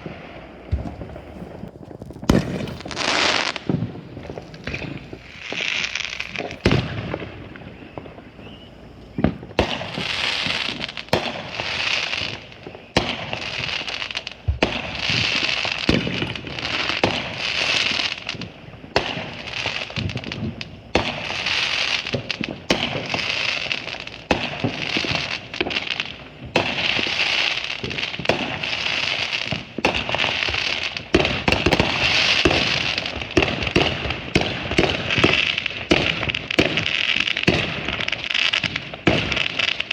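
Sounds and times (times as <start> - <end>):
fireworks dense crackling: 0.0 - 39.9
fireworks sharp bangs: 0.0 - 39.9.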